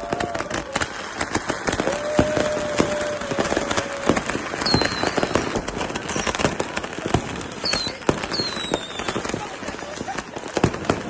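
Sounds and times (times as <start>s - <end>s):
firecracker bangs and crackling: 0.0s - 11.0s
firework whistles: 0.0s - 11.0s.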